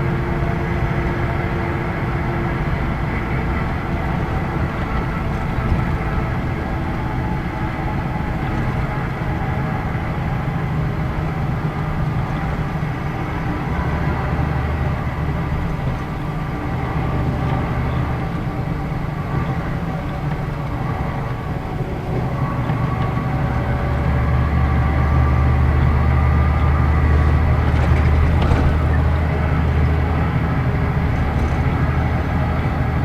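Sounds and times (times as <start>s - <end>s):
bus diesel engine drone: 0.0s - 33.0s
road noise: 0.0s - 33.0s.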